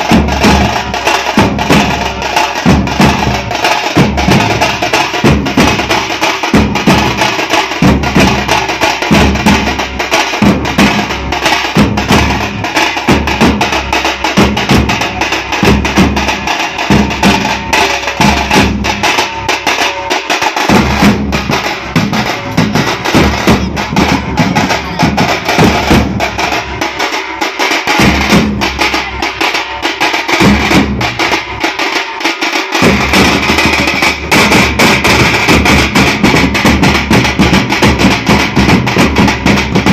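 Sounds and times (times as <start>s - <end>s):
deep bass drum beats: 0.0s - 31.6s, 32.8s - 39.9s
fast snare drumming: 0.0s - 39.9s.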